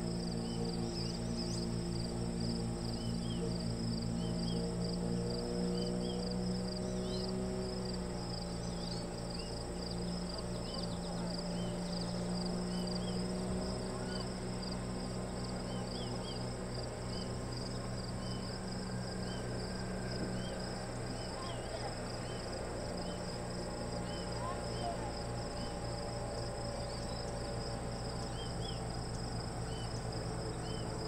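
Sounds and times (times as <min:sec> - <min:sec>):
insects chirring: 0:00.0 - 0:31.0
motorboat engine hum: 0:00.0 - 0:31.0.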